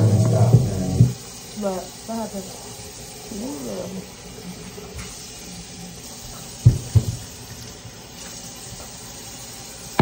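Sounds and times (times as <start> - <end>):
steady stove hiss: 0.0 - 10.0.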